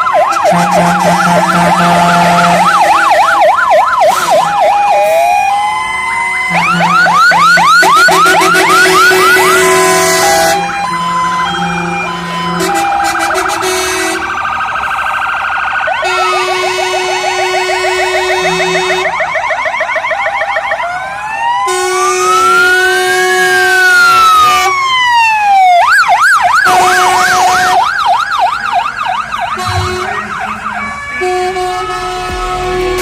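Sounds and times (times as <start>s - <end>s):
fire engine siren: 0.0s - 33.0s.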